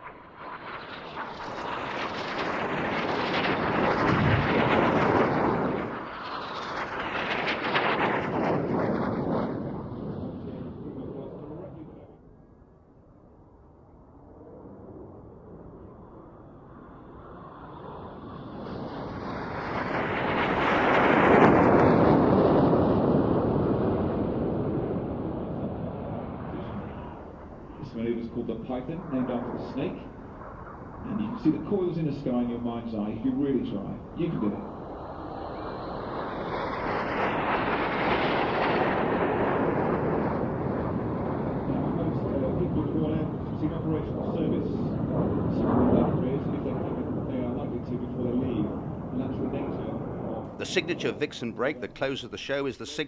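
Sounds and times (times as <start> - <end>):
jet roar overhead: 0.0 - 53.0.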